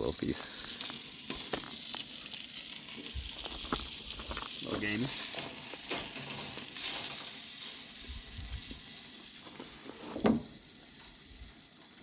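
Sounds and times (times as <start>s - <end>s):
meat sizzling in fat: 0.0s - 12.0s.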